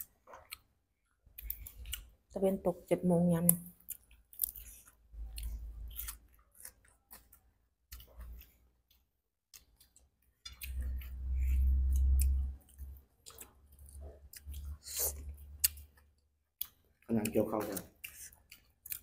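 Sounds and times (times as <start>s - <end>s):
people chewing shrimp: 0.0s - 19.0s.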